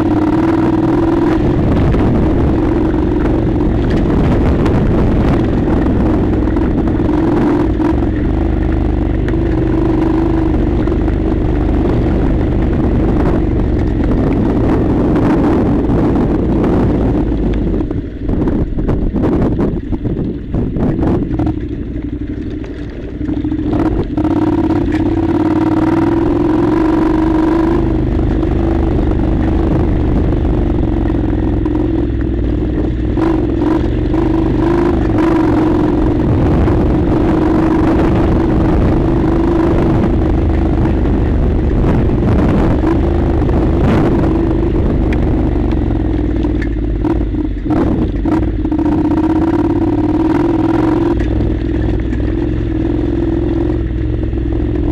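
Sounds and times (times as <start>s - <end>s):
clatter from loose dirt: 0.0s - 54.9s
motorcycle engine under load: 0.0s - 54.9s.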